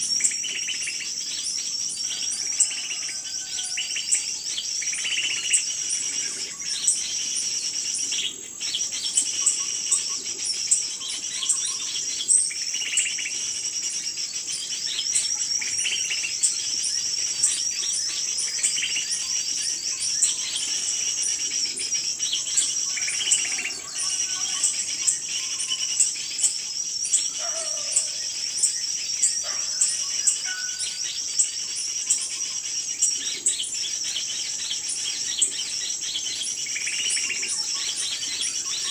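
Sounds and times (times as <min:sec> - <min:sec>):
sharp bird calls: 0:00.0 - 0:38.9
small birds chirping: 0:00.0 - 0:38.9.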